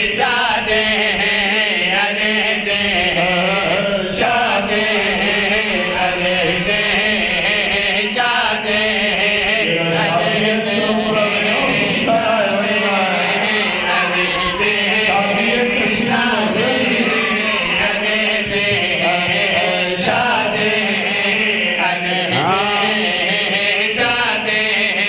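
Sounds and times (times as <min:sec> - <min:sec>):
men chanting devotional refrain: 0:00.0 - 0:25.0.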